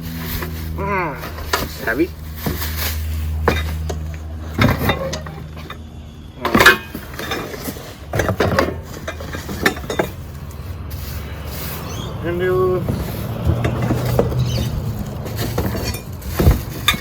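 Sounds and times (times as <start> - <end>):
metal parts clinking and knocking: 0.1 - 11.2, 12.9 - 17.0.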